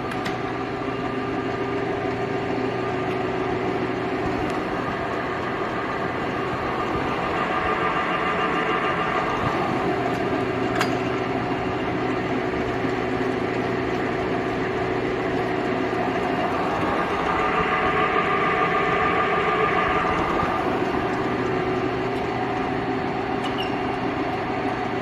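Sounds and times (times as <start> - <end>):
lathe gearbox whine: 0.0 - 25.0.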